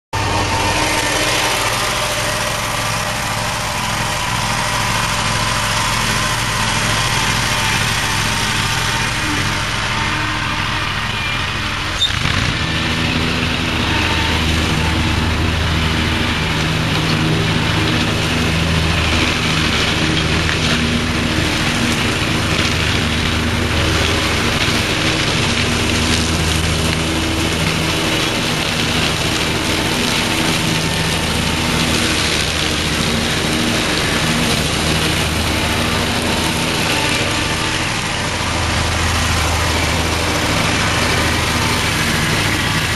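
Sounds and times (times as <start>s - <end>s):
mower engine running: 0.0s - 42.9s.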